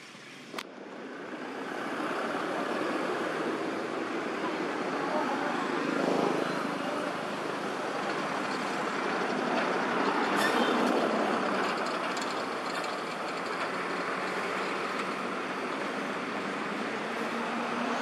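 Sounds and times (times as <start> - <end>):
vehicle noise: 0.0 - 18.0.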